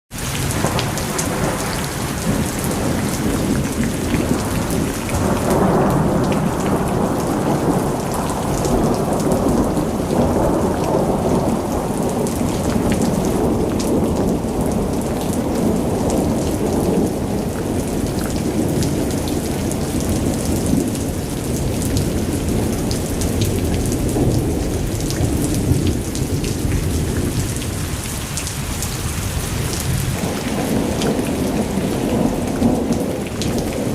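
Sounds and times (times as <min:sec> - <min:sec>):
heavy rain pouring: 0:00.1 - 0:33.9
thunder rumbling: 0:00.2 - 0:33.9.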